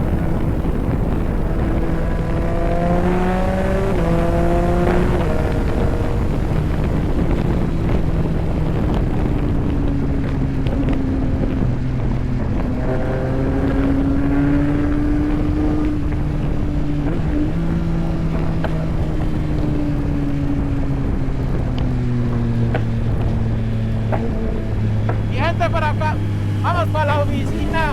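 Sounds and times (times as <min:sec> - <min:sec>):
motorcycle engine cruising: 0:00.0 - 0:27.9
wind buffeting microphone: 0:00.0 - 0:27.9.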